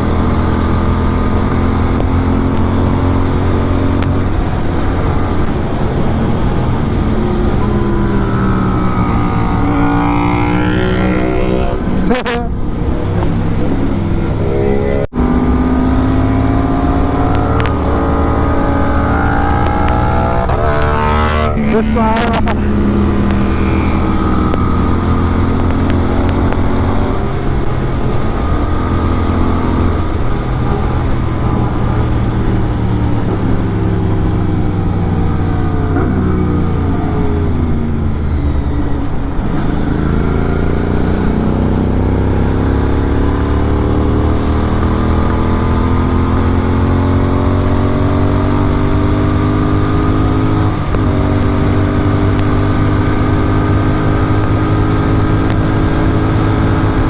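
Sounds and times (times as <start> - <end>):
motorcycle engine decelerating and accelerating: 0.0 - 57.0.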